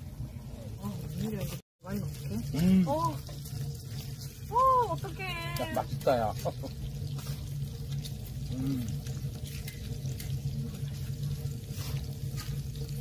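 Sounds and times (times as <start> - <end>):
low hum: 0.0 - 13.0
meat sizzling in fat: 0.5 - 13.0.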